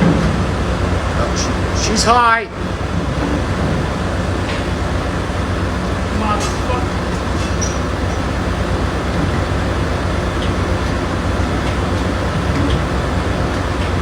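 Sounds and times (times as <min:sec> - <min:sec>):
engine room machinery drone: 0:00.0 - 0:14.0.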